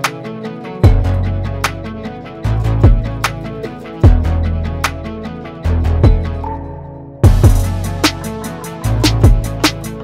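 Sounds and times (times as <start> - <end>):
background music with drums and bass: 0.0 - 10.0.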